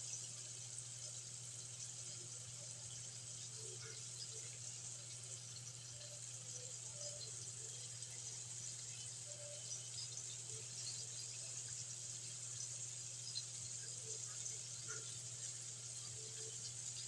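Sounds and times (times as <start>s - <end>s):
chicken frying in oil: 0.0s - 17.0s.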